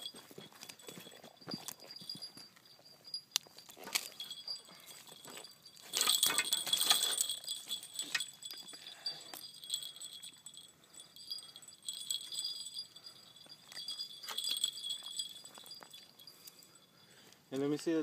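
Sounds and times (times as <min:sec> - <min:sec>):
high-pitched ringing: 0:00.0 - 0:17.4.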